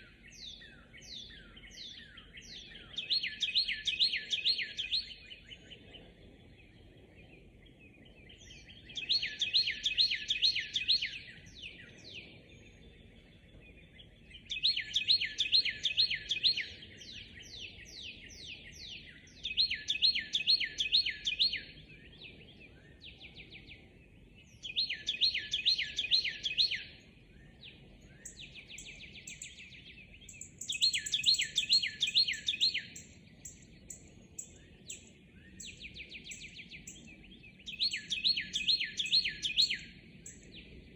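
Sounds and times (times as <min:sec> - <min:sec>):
bird song with down-slurred notes: 0:00.0 - 0:40.9
higher thinner bird song: 0:00.0 - 0:40.9.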